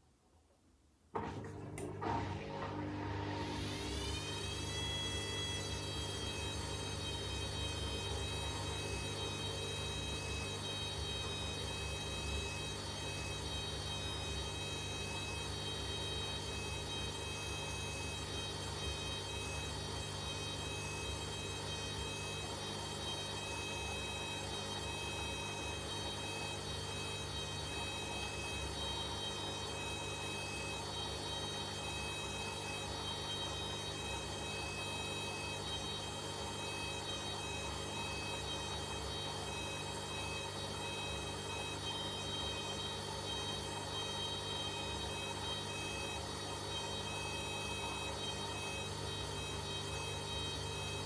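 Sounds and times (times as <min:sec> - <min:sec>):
washing machine motor hum: 0:01.1 - 0:51.0.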